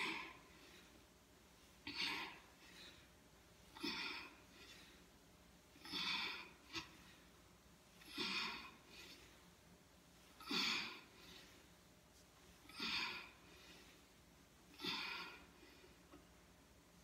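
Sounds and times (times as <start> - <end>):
woman breathing heavily: 0.0 - 11.9, 12.5 - 16.4.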